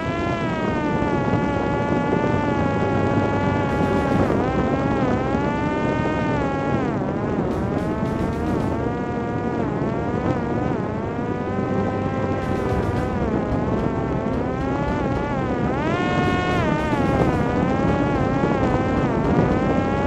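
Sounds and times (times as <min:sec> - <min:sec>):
electric motor and propeller whining: 0:00.0 - 0:20.0
wind rush on microphone: 0:00.0 - 0:20.0.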